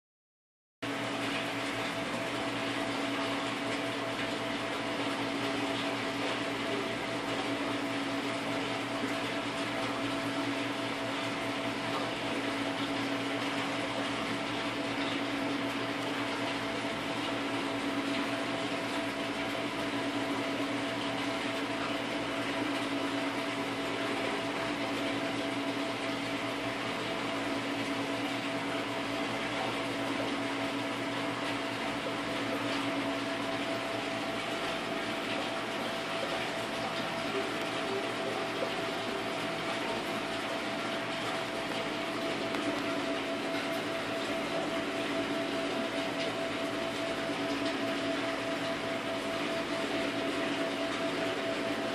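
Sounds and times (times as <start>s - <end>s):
aquarium equipment humming: 0.8s - 51.9s.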